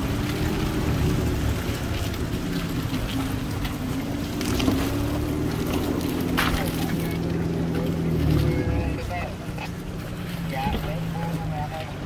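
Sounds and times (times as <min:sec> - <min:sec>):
suv engine at low speed: 0:00.0 - 0:12.0
tyres crunching on wet gravel: 0:00.0 - 0:12.0.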